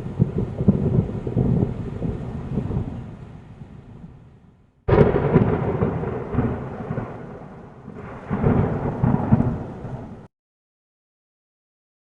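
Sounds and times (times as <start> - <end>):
thunder rumbling and cracking: 0.0 - 4.2, 4.9 - 10.3.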